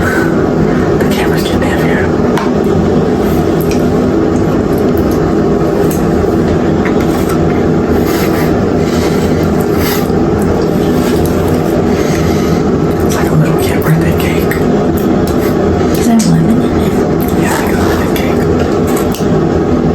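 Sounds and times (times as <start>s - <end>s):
air conditioner hum and whir: 0.0s - 19.9s.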